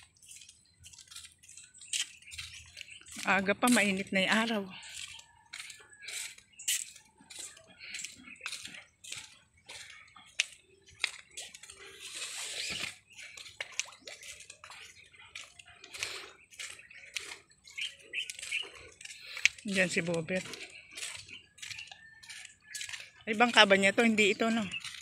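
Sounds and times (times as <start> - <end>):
waves lapping against concrete: 0.0 - 25.0.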